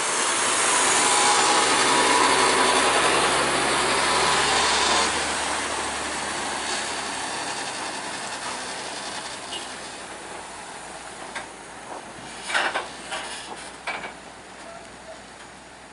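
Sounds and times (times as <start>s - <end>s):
truck diesel engine: 0.0s - 15.9s.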